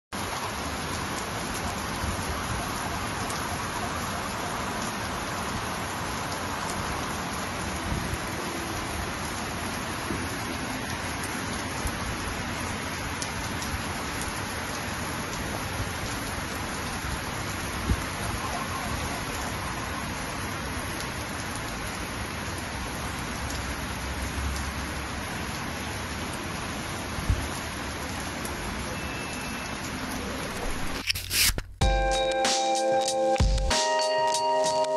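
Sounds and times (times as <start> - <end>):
heavy rain falling: 0.1 - 31.1.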